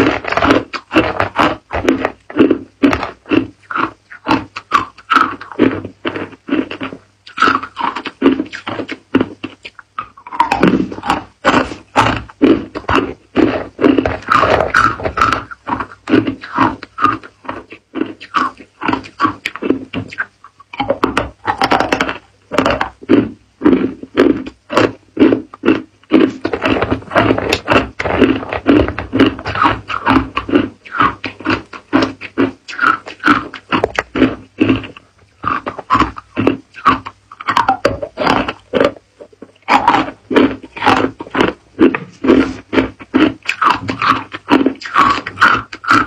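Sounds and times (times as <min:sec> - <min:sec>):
ice cubes crunched by chewing: 0:00.0 - 0:46.0.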